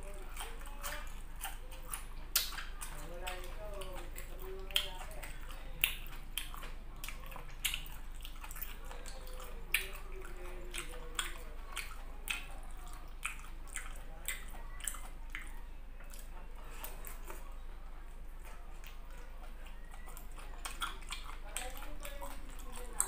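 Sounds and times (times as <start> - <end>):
chewing with wet mouth noises: 0.0 - 23.0.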